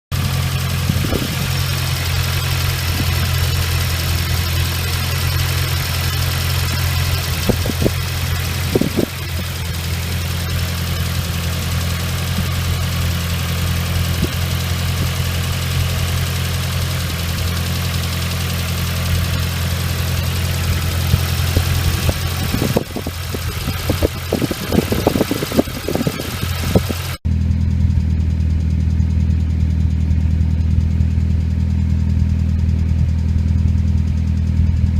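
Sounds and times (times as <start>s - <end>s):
car engine idling: 0.1s - 34.9s
weird engine noise: 0.1s - 34.9s.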